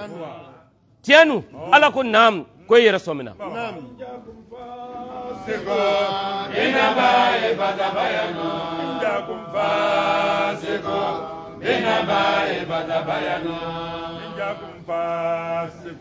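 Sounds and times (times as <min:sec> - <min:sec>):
men chanting devotional song: 0:00.0 - 0:16.0.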